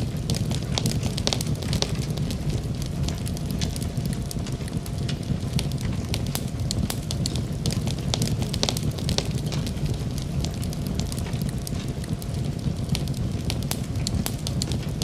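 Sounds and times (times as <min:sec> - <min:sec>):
fire crackling with snaps and pops: 0:00.0 - 0:15.0
low rumble: 0:00.0 - 0:15.0.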